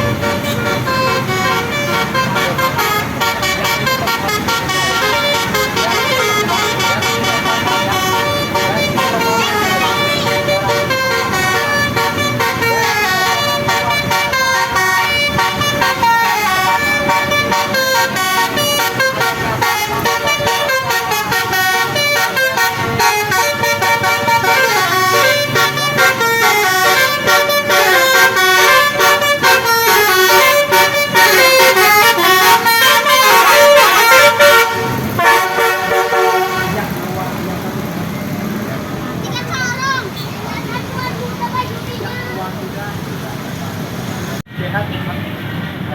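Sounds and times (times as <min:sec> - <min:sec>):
bus musical horn tune: 0:00.0 - 0:37.4.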